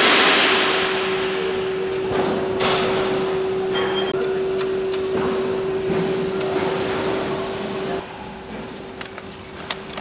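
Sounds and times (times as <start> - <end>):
machine hum: 0.0 - 8.0.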